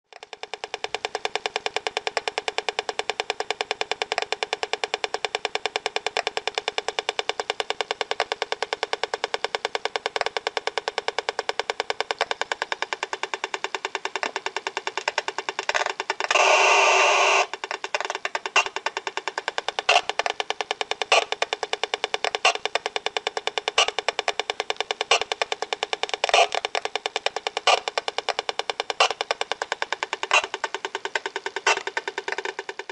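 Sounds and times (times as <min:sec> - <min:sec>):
buzzy radio interference clicks: 0:00.1 - 0:32.9.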